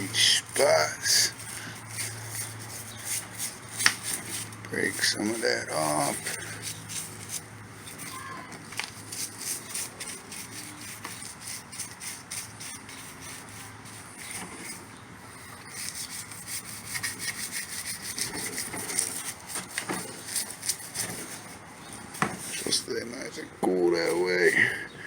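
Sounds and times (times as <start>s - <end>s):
scrubbing strokes on casing: 0.0s - 24.9s.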